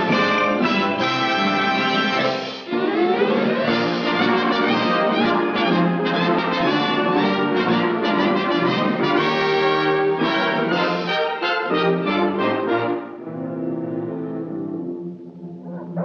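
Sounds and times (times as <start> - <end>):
orchestral cartoon title music: 0.0 - 14.0.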